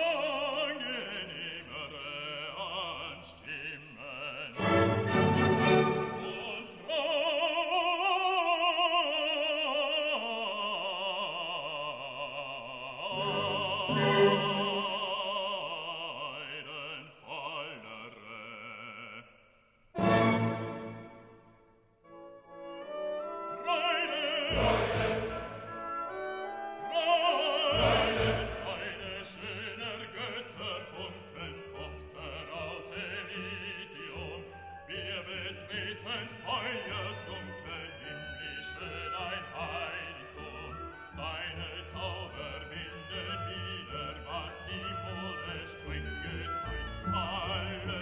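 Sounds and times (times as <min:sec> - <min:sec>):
orchestral strings: 0:00.0 - 0:08.1, 0:13.0 - 0:16.7, 0:20.0 - 0:48.0
operatic singing: 0:00.0 - 0:19.4, 0:20.0 - 0:21.4, 0:23.2 - 0:48.0.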